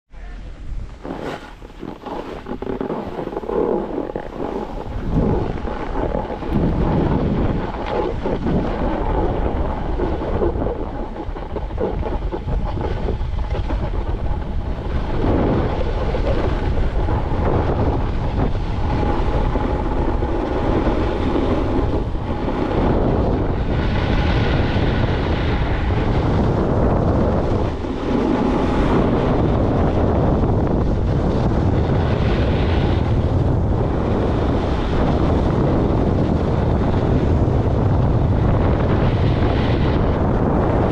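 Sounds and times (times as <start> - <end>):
wind buffeting microphone: 0.1 - 40.9.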